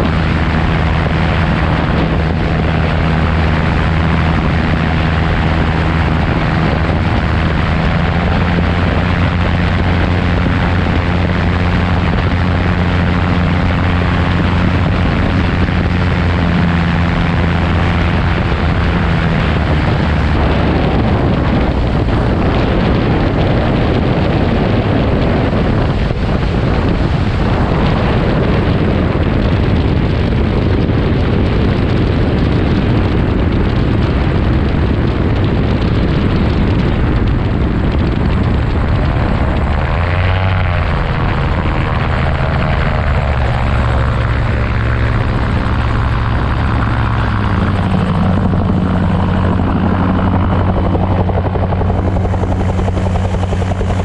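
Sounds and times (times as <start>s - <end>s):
aircraft engine and propeller: 0.0s - 54.0s
wind rush: 0.0s - 54.0s.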